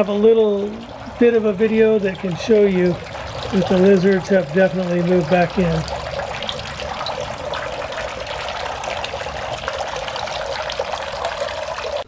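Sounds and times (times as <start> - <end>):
fountain water trickling and splashing: 0.0 - 12.0.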